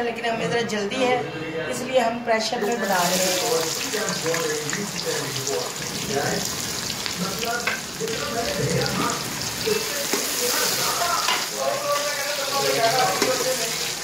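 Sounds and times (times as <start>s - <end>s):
onions sizzling in oil: 2.6s - 14.0s.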